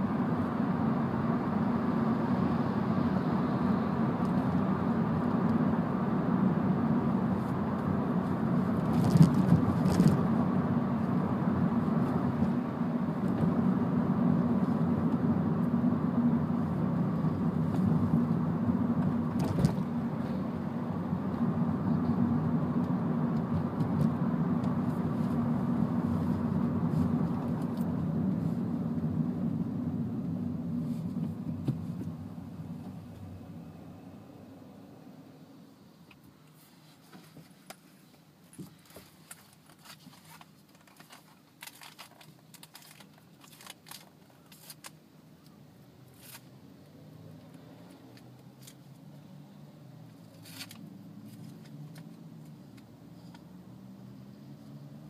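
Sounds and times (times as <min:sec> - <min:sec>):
car engine and road hum: 0:00.0 - 0:55.0.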